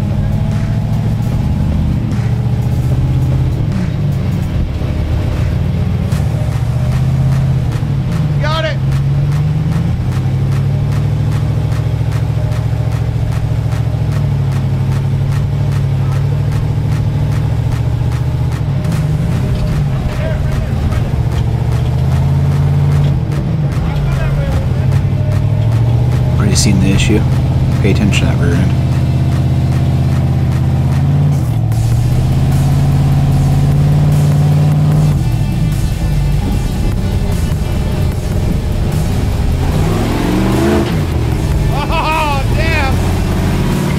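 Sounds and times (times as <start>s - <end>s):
car engine running at low revs: 0.0s - 43.9s.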